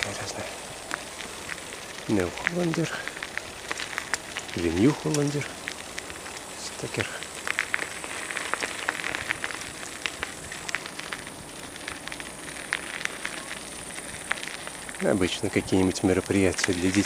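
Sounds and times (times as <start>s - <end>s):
crackling hiss: 0.0s - 17.0s.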